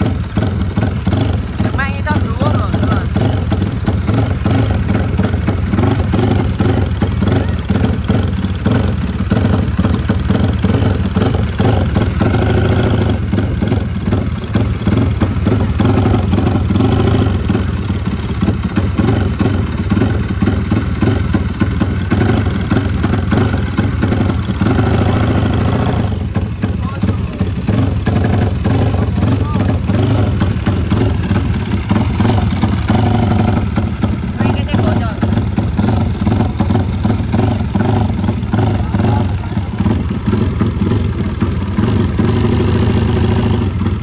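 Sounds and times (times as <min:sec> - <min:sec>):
motorcycle engine idling loudly: 0:00.0 - 0:44.0.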